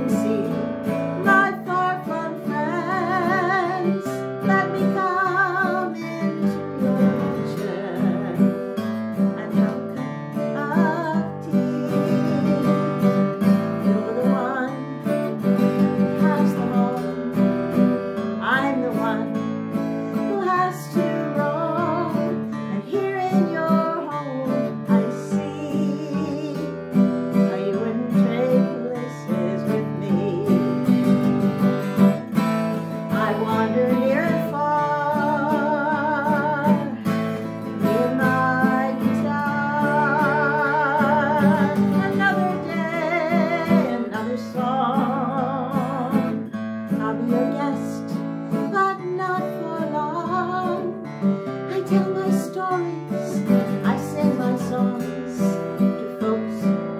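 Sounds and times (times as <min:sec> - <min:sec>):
acoustic guitar strumming: 0:00.0 - 0:56.9
woman singing: 0:00.0 - 0:56.9.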